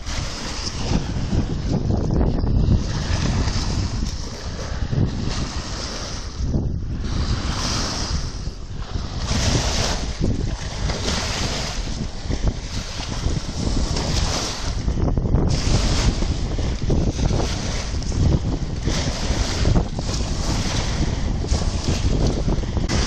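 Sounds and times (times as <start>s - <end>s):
waves breaking on shore: 0.0s - 23.0s
wind buffeting microphone: 0.0s - 23.0s.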